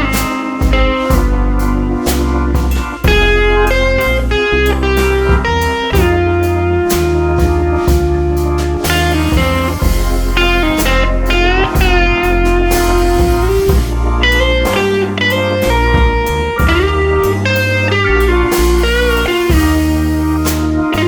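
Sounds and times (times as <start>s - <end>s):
bluesy guitar music: 0.0s - 21.0s.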